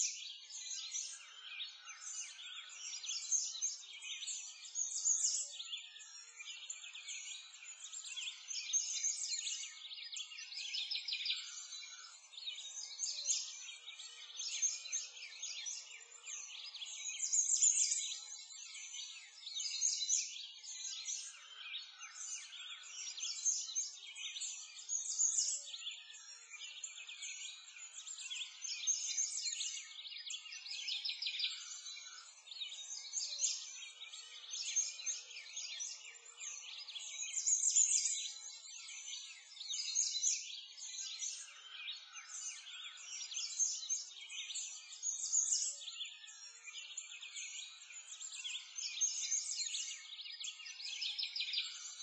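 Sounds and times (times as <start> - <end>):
birds chirping and singing: 0.0 - 52.0.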